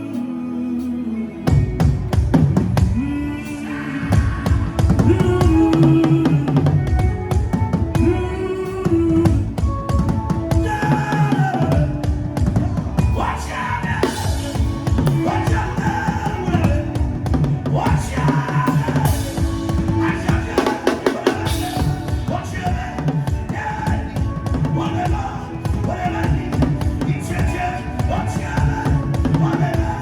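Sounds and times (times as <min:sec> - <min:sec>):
drum kit playing: 0:01.5 - 0:03.1, 0:04.1 - 0:30.0.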